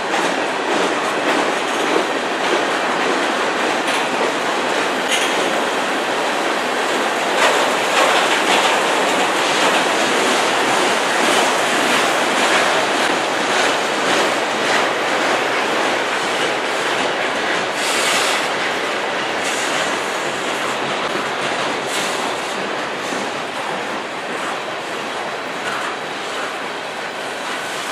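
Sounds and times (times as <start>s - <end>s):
freight train wheels rushing on rails: 0.0s - 27.9s.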